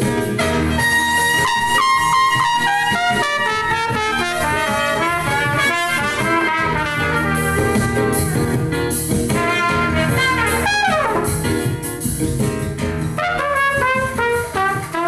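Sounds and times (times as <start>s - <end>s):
trumpet solo: 0.3s - 8.6s, 9.3s - 11.7s, 13.2s - 15.0s.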